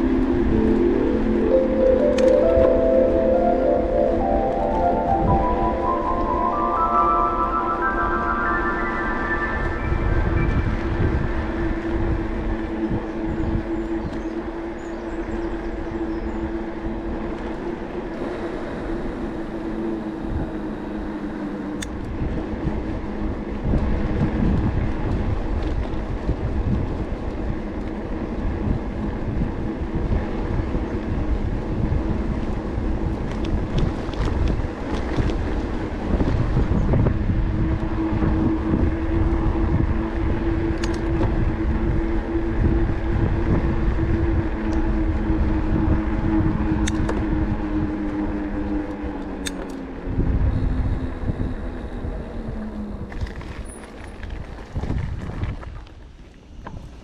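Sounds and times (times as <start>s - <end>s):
rumble of tyres and wind: 0.0s - 6.0s, 9.6s - 57.0s.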